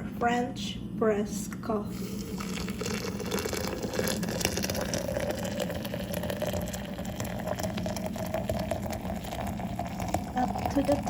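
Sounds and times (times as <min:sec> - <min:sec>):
water pouring into coffee maker: 0:01.9 - 0:11.0.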